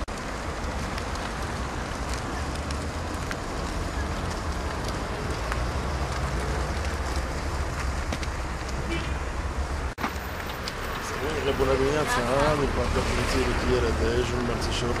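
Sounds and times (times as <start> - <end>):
cars moving: 0.0 - 15.0
wind rumbling on microphone: 0.0 - 15.0.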